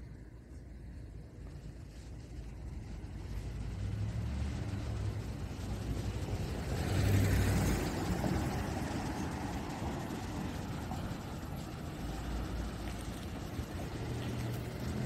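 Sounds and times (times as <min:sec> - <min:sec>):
low traffic rumble: 0:00.0 - 0:15.0
car passing by: 0:01.9 - 0:15.0.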